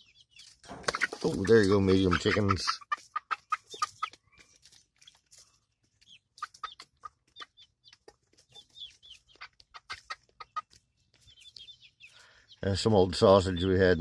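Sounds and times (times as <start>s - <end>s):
young chickens clucking softly: 0.0s - 14.0s.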